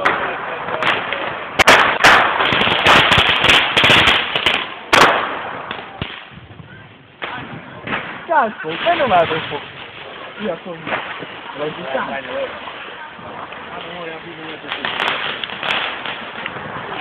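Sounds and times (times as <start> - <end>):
firecrackers bangs and cracks: 0.0 - 17.0.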